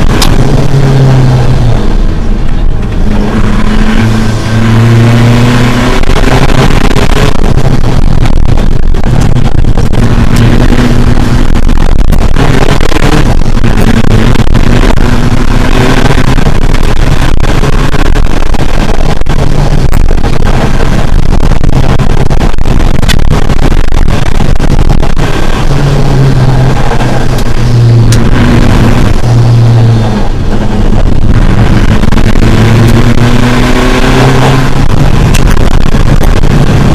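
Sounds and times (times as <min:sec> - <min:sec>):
rally car engine at full throttle: 0:00.0 - 0:36.9.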